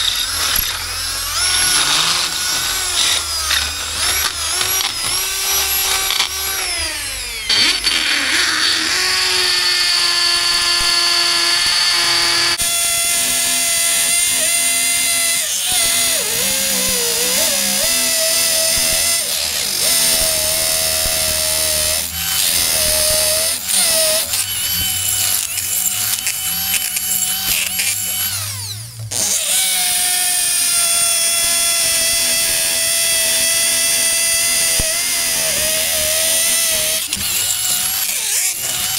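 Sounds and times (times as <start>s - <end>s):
power drill boring into concrete: 0.0s - 38.9s.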